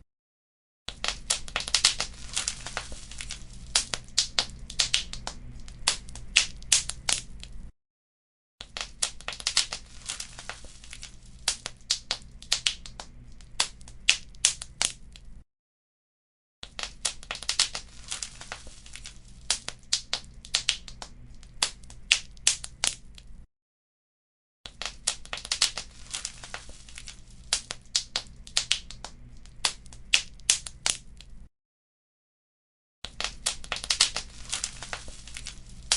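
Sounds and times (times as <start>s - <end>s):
wood fire crackling and popping: 0.9s - 7.7s, 8.6s - 15.4s, 16.7s - 23.4s, 24.7s - 31.4s, 33.1s - 35.9s.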